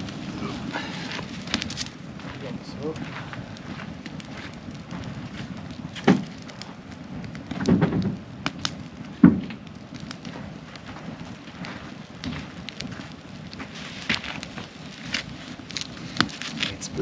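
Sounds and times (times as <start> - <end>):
campfire crackling and hissing: 0.0 - 17.0.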